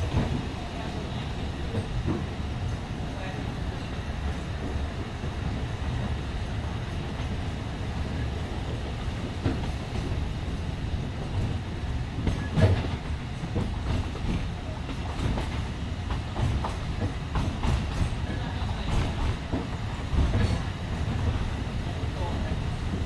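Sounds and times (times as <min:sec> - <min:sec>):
train carriage rumbling: 0:00.0 - 0:23.0.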